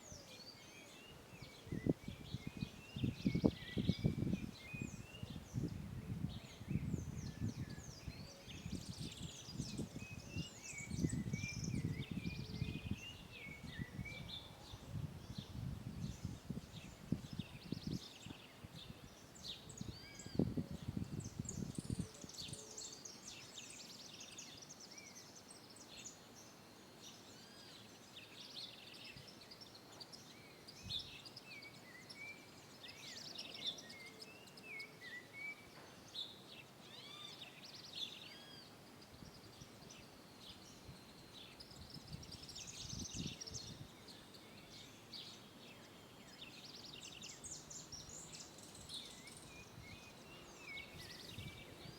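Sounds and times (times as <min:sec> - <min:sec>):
birds chirping and twittering: 0:00.0 - 0:51.9.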